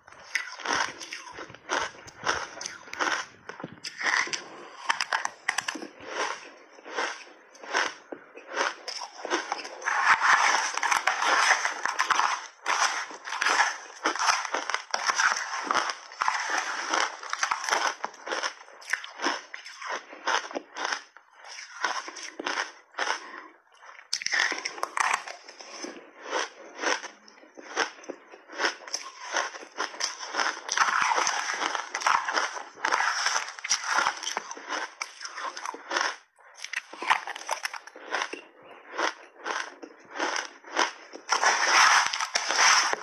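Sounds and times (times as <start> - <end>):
crunching shaved ice: 0.1 - 23.4, 24.1 - 27.1, 27.7 - 43.0.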